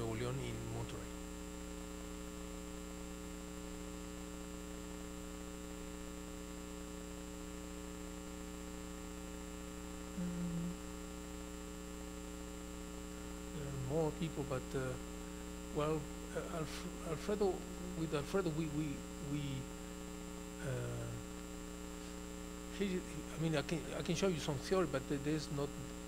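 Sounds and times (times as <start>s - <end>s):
electrical mains hum: 0.0s - 26.0s
faint high whine: 0.0s - 26.0s.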